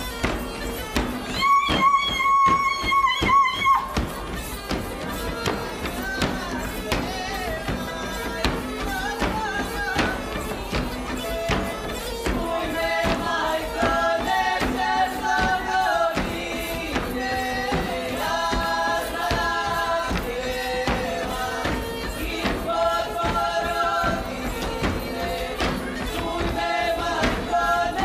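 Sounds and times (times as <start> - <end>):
group singing folk song: 0.0 - 28.0
regular sharp beats: 0.0 - 28.0.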